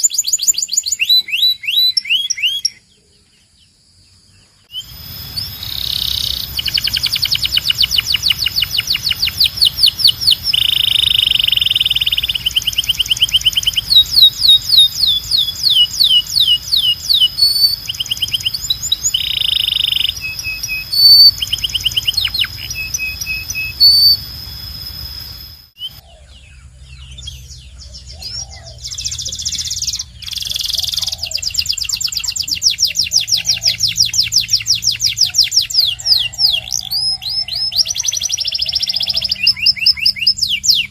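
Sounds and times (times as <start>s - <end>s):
canary singing: 4.7s - 40.9s.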